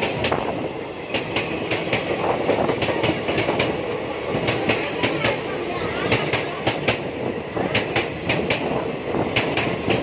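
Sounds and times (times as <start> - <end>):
train running noise: 0.0 - 10.0
train wheels clattering over rail joints: 0.0 - 10.0.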